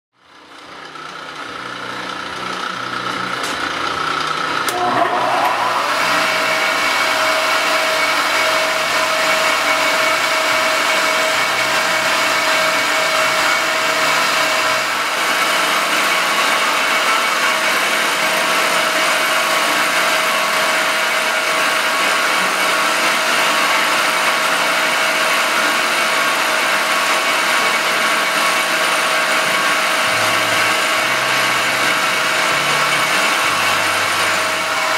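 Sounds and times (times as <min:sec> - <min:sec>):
milling machine whining: 0:00.3 - 0:34.9.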